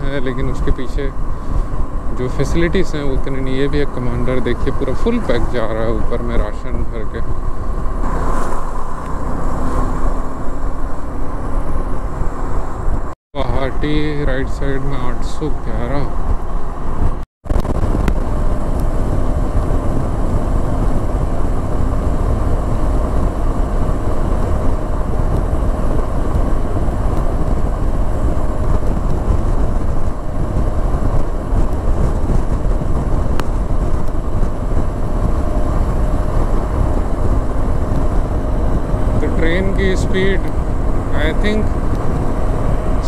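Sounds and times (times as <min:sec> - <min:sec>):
faint engine hum: 0:00.0 - 0:43.0
wind rush and road noise: 0:00.0 - 0:43.0.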